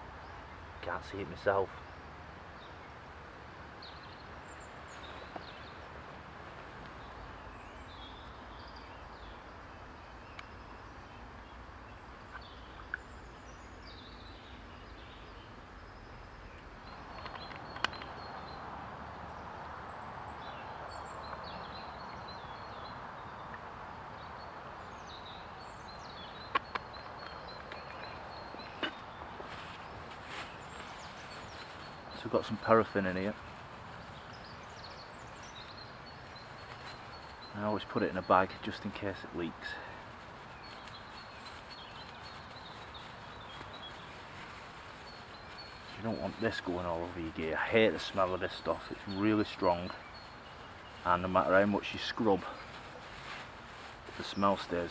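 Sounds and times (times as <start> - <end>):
small birds chirping: 0.0 - 54.9
steady outdoor hiss: 0.0 - 54.9.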